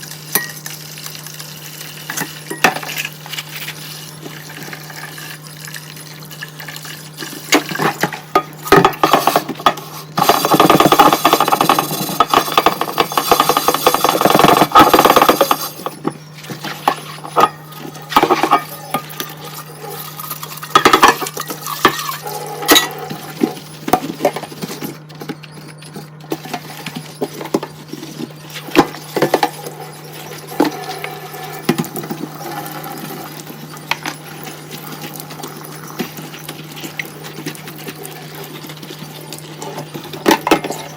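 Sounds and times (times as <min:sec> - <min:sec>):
faint steady hum: 0:00.0 - 0:40.9
running water: 0:00.0 - 0:40.9.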